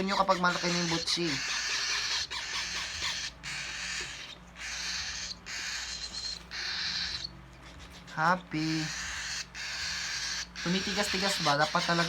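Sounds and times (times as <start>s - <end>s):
cockatiel begging calls: 0.0s - 12.0s.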